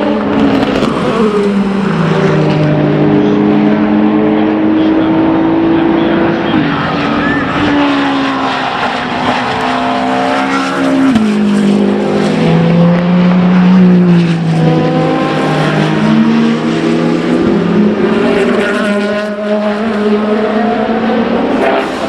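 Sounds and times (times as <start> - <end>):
racing car engines: 0.0 - 22.0.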